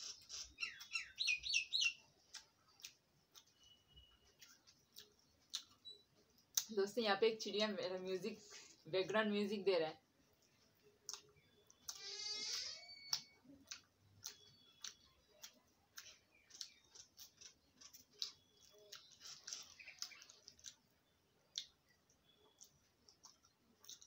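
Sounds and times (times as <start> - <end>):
small bird chirping: 0.0 - 6.7, 11.0 - 24.0.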